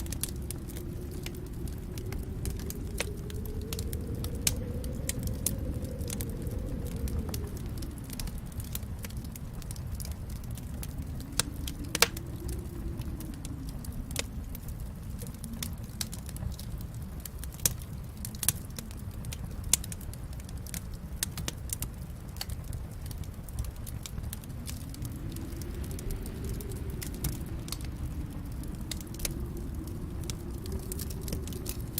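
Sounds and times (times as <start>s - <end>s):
fire crackling and popping: 0.0s - 31.9s
low rumble of flames: 0.0s - 31.9s.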